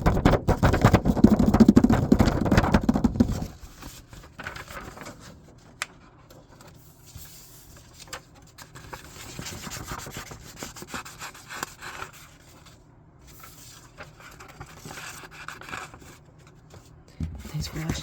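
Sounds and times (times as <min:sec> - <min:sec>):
paper rustling: 0:00.0 - 0:18.0.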